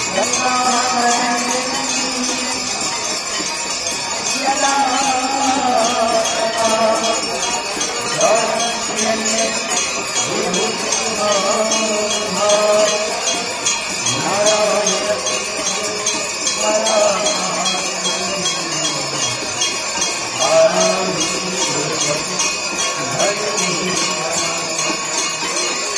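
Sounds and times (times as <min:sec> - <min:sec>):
hand bells ringing fast: 0:00.0 - 0:25.9
hymn sung over loudspeakers: 0:00.0 - 0:25.9.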